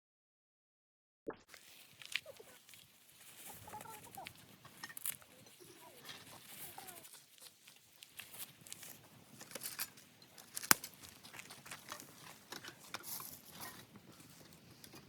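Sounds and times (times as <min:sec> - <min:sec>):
campfire crackling and popping: 0:01.4 - 0:15.0.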